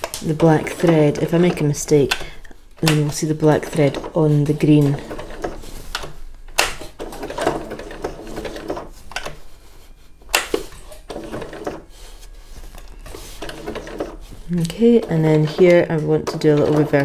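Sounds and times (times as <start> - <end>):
sewing machine stitching: 0.0 - 9.4, 10.3 - 17.0.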